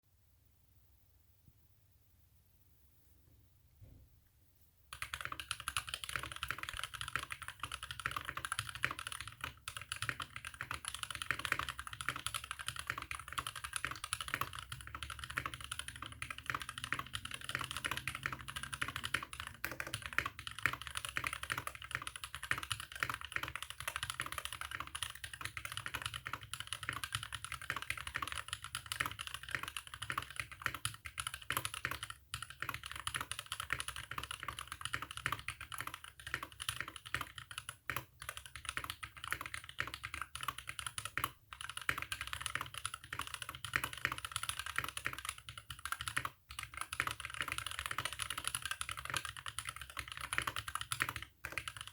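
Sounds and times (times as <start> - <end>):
mechanical keyboard clacks: 4.9 - 51.9.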